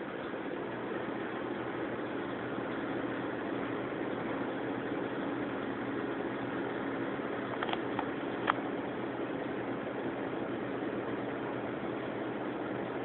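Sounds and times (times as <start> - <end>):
low hum with hiss: 0.0 - 13.0.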